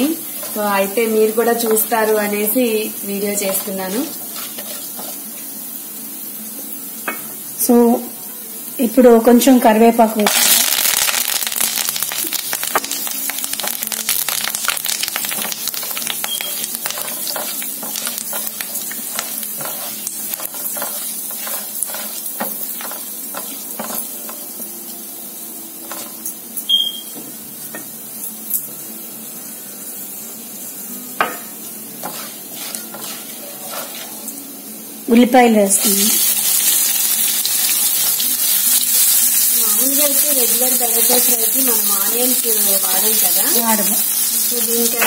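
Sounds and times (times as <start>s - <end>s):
hot oil sizzling in a frying pan: 0.0s - 45.0s.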